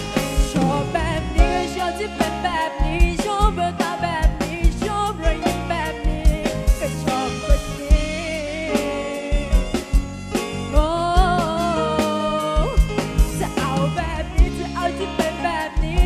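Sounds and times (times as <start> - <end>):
bass: 0.0 - 16.0
wavering lead melody: 0.0 - 16.0.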